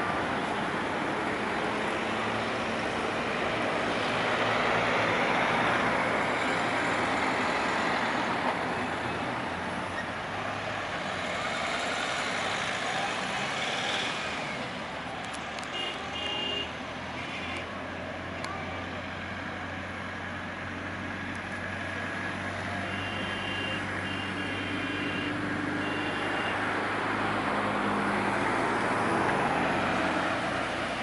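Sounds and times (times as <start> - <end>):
cars driving past: 0.0 - 31.0.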